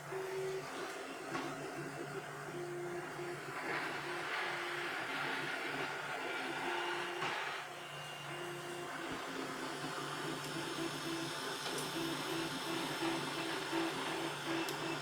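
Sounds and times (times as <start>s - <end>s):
printer low hum: 0.0s - 15.0s.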